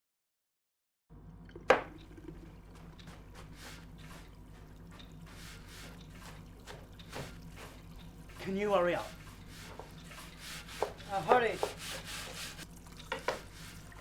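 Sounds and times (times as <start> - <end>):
water splashing and dripping: 1.4 - 14.0.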